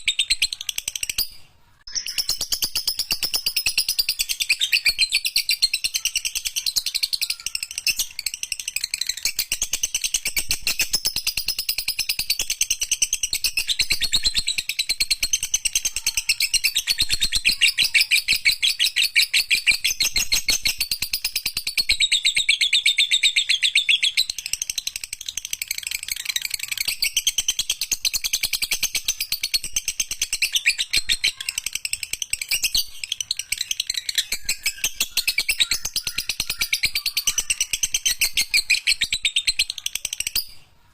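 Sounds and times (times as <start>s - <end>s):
lovebird rapid chirping: 0.0s - 40.7s.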